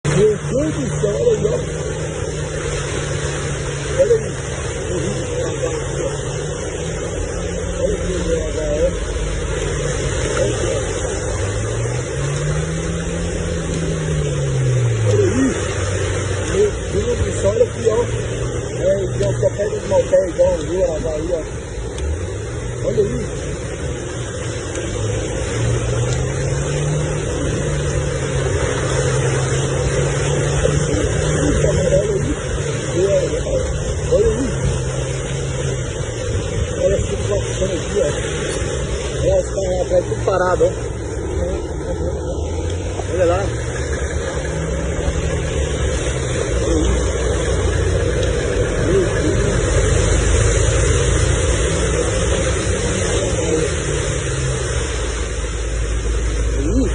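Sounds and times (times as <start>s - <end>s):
car engine running: 0.0s - 56.9s
constant rushing noise: 0.0s - 56.9s.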